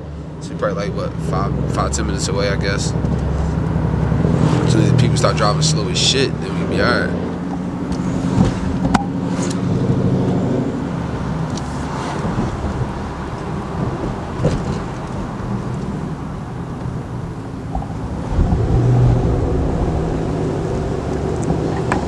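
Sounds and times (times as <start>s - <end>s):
car engine running: 0.0s - 22.0s
road noise: 0.0s - 22.0s.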